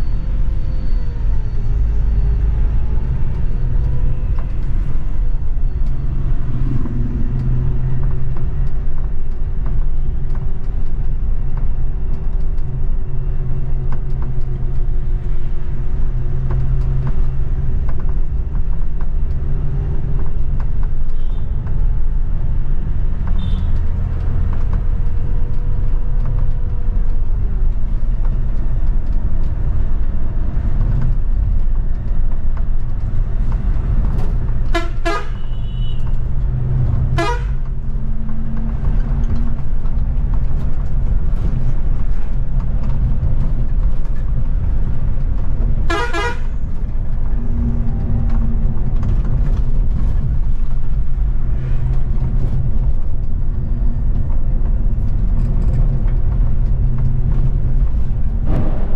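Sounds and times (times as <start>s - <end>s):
bus engine rumble: 0.0s - 58.9s.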